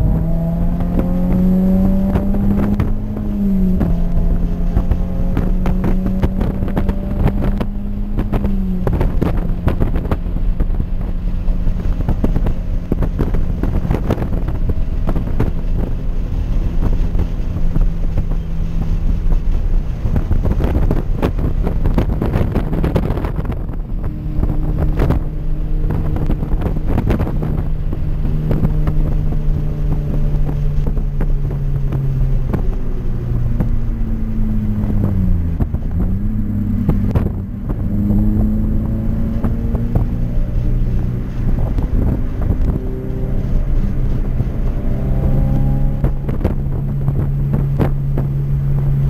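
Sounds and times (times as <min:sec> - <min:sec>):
car engine under load: 0:00.0 - 0:49.0
wind and road noise: 0:00.0 - 0:49.0.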